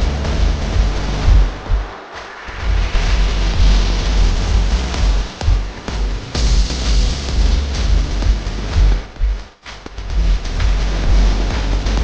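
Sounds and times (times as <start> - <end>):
music with heavy pulsing bass: 0.0 - 12.0.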